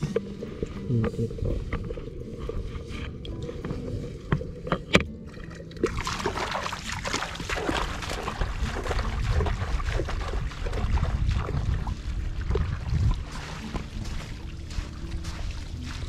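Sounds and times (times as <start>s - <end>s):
low rumble: 0.0s - 16.0s
water splashing and sloshing: 0.0s - 16.0s.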